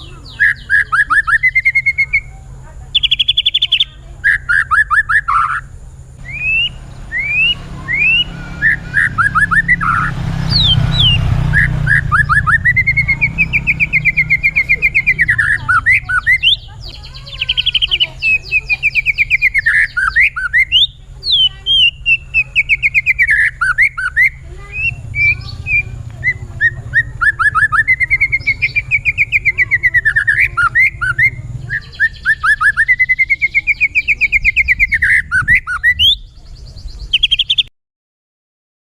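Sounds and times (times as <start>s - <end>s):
songbird singing fast runs: 0.0s - 37.7s.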